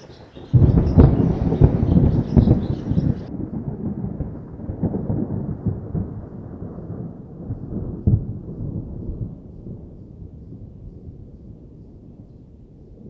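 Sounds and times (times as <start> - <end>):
sharp thunderclap: 0.0 - 12.2
rolling thunder: 0.0 - 13.0.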